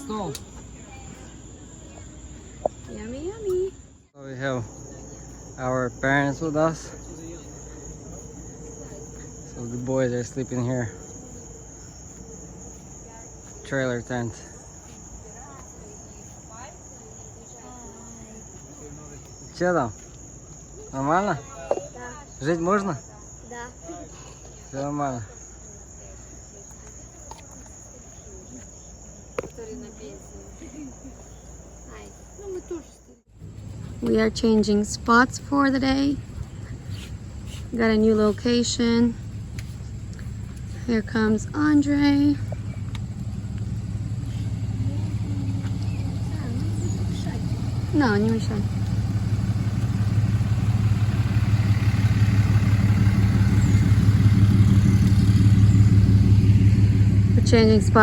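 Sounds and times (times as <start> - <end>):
faint voices: 0.0 - 55.2
crickets chirping: 0.0 - 58.0
vehicle engine humming: 0.0 - 58.0.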